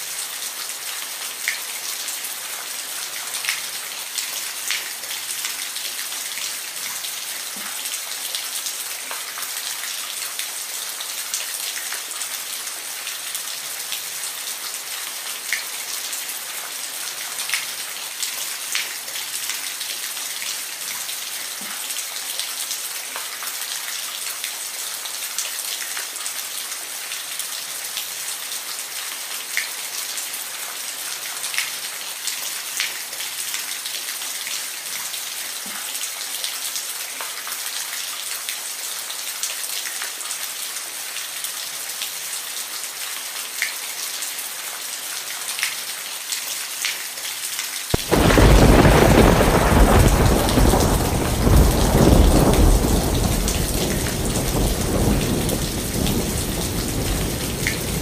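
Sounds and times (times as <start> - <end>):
steady rain falling: 0.0 - 58.0
raindrops ticking on a surface: 0.4 - 58.0.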